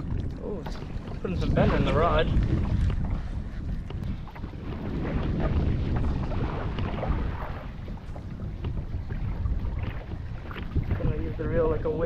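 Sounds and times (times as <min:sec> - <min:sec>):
water splashing against kayak: 0:00.0 - 0:12.0
wind buffeting microphone: 0:00.0 - 0:12.0.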